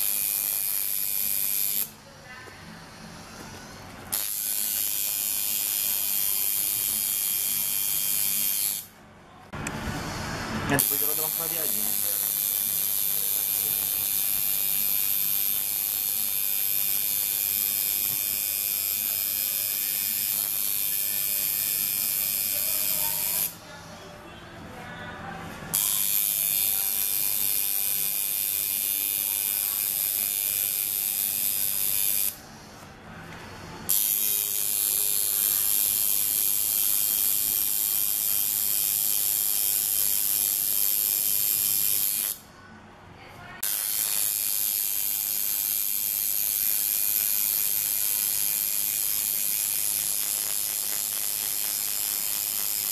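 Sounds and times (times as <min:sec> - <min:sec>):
tattoo machine buzzing: 0:00.0 - 0:02.0, 0:03.6 - 0:09.0, 0:10.2 - 0:23.6, 0:25.7 - 0:32.4, 0:33.9 - 0:42.4, 0:43.6 - 0:52.9.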